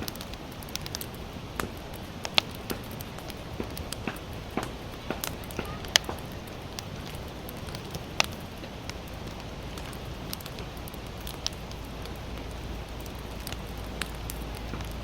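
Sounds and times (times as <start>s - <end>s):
low hiss and rumble: 0.0s - 15.0s
sharp pops from fire: 0.0s - 15.0s
wood fire crackling: 0.0s - 15.0s.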